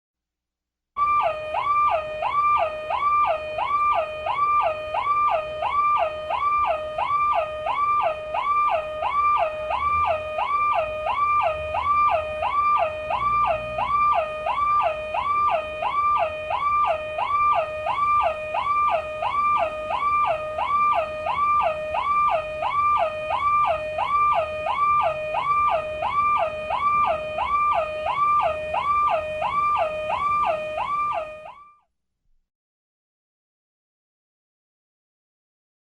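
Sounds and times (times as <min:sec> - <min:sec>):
car alarm siren: 0:01.0 - 0:31.9.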